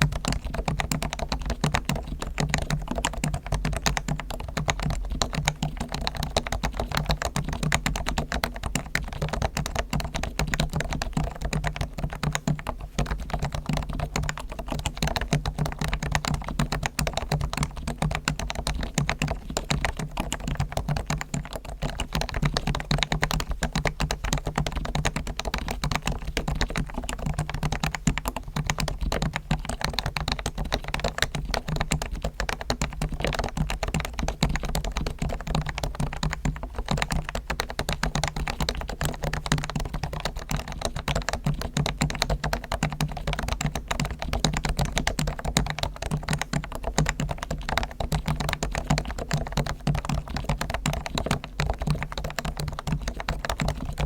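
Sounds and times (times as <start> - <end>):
fast keyboard typing: 0.0 - 54.0.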